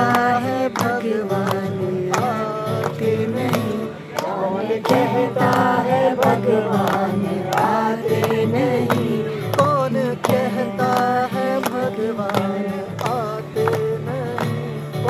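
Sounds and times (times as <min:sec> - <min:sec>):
group singing devotional song: 0:00.0 - 0:14.8
acoustic guitar: 0:00.0 - 0:15.0
hand-clapping in time: 0:00.0 - 0:15.0.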